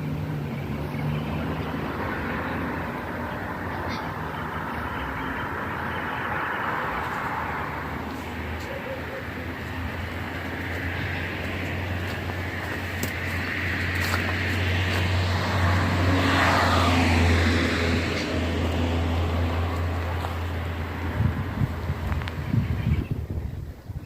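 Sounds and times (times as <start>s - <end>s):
vehicle passing by: 0.0s - 22.9s.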